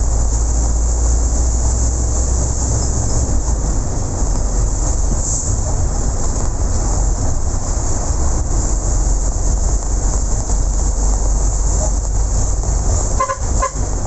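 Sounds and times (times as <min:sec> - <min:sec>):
vehicle running rumble and hiss: 0:00.0 - 0:14.0.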